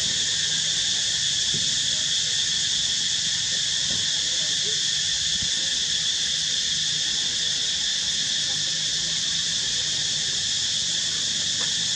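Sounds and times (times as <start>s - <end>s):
insect chorus drone: 0.0s - 11.9s.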